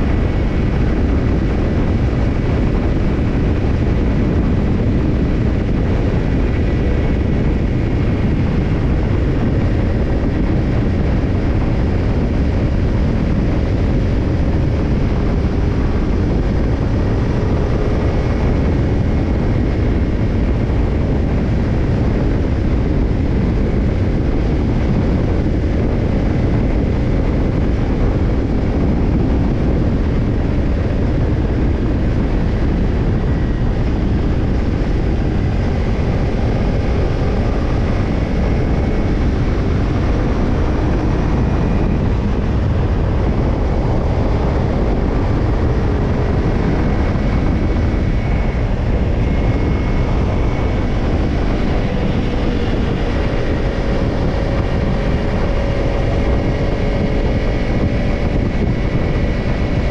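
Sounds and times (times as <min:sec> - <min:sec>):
motorcycle engine running: 0:00.0 - 0:59.9
road noise: 0:00.0 - 0:59.9
wind noise: 0:00.0 - 0:59.9.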